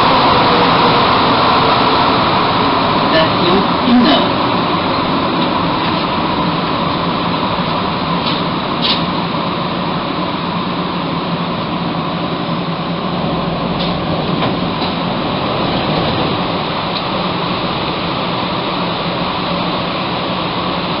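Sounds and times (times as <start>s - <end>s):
metro car rumbling: 0.0s - 21.0s.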